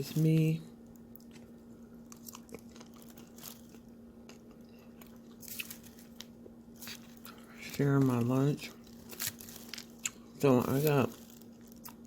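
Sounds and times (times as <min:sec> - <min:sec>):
faint steady hum: 0:00.0 - 0:12.0
person chewing crunchy salad: 0:00.9 - 0:12.0.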